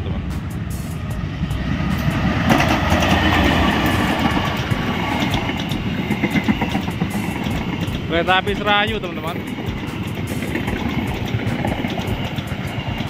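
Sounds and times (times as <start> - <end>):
locomotive rumble: 0.0 - 13.0
train wheels clattering on rails: 0.0 - 13.0.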